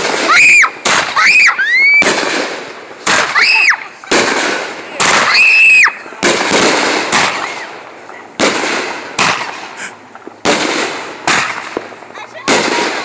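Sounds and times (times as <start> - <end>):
firework hiss and crackle: 0.0 - 13.0
firework launch bangs: 0.0 - 13.0
whistling firework: 0.0 - 13.0.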